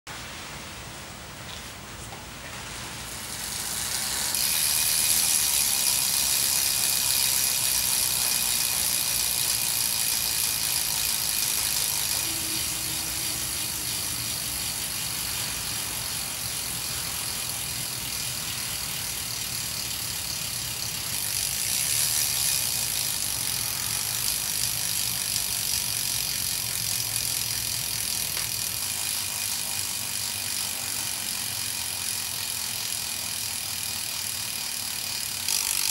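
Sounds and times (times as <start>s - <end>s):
bicycle hub freewheel ticking: 2.8s - 35.9s.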